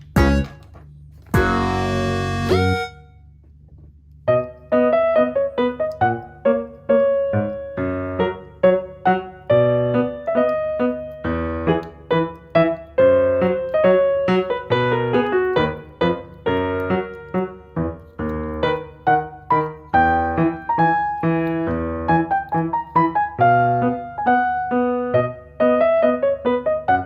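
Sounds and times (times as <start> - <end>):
piano music: 0.0 - 3.3, 4.2 - 27.0.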